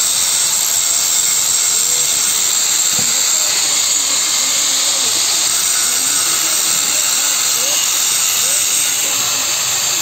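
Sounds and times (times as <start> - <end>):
angle grinder cutting stone: 0.0 - 10.0.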